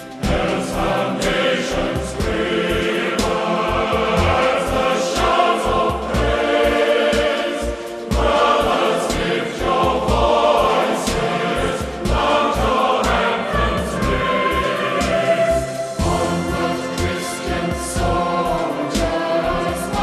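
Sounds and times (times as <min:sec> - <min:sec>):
choir singing a hymn: 0:00.0 - 0:20.0
instrumental accompaniment: 0:00.0 - 0:20.0.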